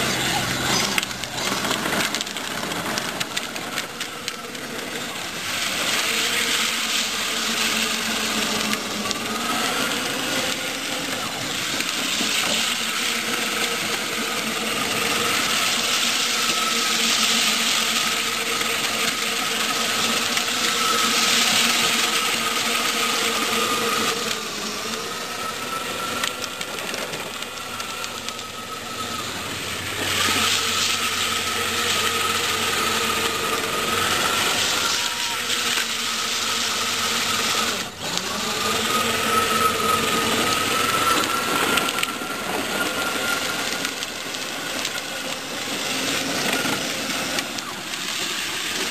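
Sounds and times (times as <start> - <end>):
electric motors whining: 0.0 - 48.9
plastic wheels rolling on asphalt: 0.0 - 48.9.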